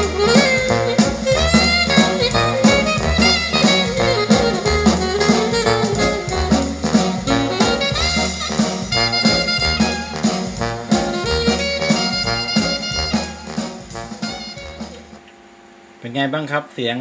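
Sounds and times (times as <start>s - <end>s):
jazz with horns and bass: 0.0s - 15.2s.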